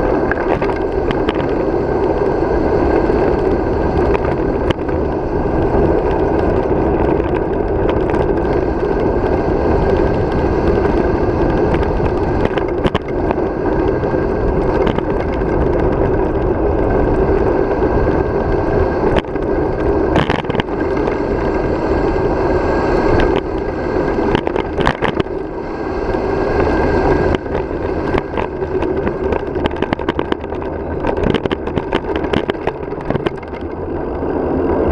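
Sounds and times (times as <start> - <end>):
bicycle tyres rolling on asphalt: 0.0 - 34.9
sharp clicks and rattles: 0.0 - 34.9
wind rushing over microphone: 0.0 - 34.9.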